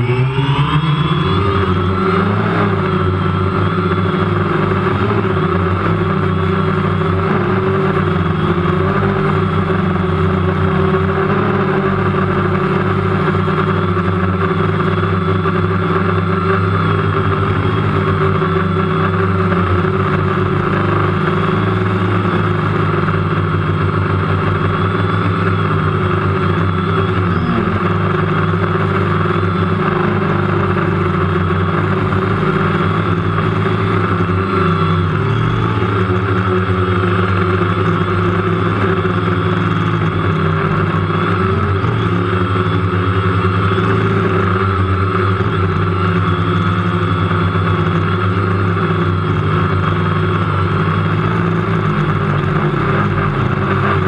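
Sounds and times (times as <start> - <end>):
quadcopter motors droning: 0.0 - 54.0.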